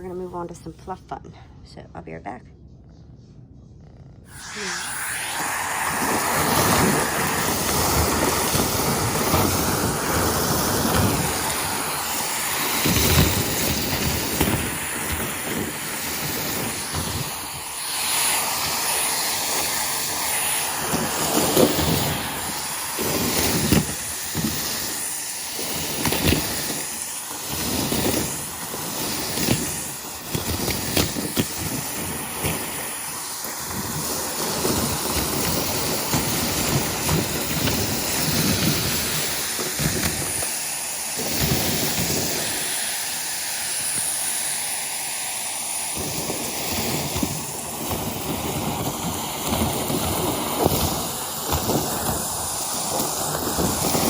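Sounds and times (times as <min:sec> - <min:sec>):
debris and nozzle rattling: 0:04.3 - 0:44.5, 0:45.5 - 0:54.0
vacuum cleaner running: 0:04.3 - 0:54.0.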